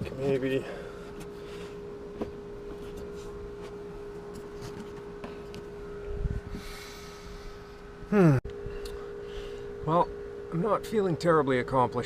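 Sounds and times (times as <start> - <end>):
steady humming tone: 0.0 - 12.0.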